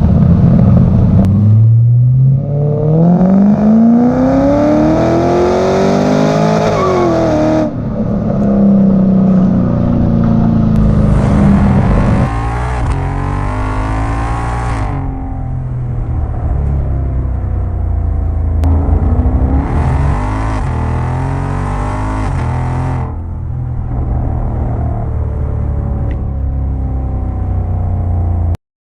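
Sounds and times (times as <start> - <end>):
engine revving and idling: 0.0 - 7.8, 8.4 - 28.6.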